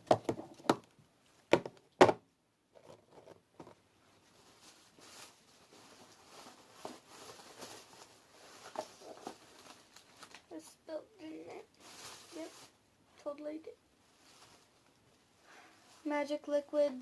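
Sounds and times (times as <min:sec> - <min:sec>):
faint rustling: 0:02.8 - 0:17.0.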